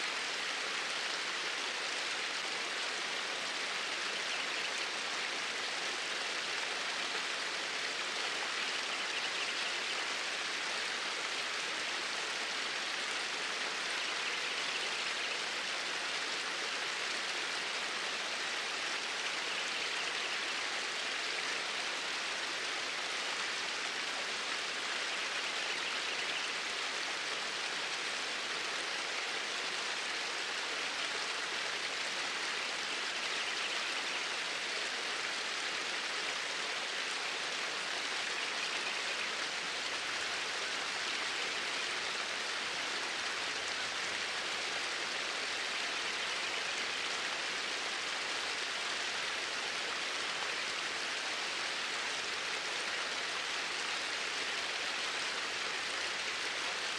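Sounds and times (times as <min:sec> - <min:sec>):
water flowing: 0:00.1 - 0:56.9.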